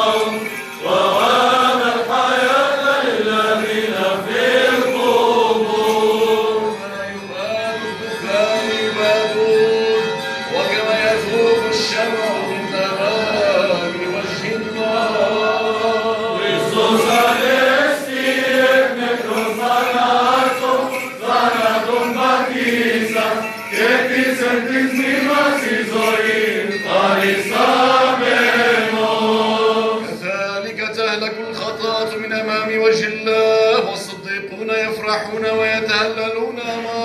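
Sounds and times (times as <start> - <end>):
winding melismatic melody: 0.0 - 30.3
men chanting: 0.0 - 30.5.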